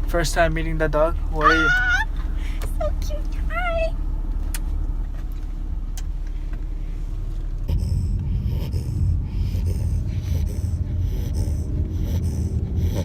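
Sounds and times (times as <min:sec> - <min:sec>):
car driving rumble from cabin: 0:00.0 - 0:13.0.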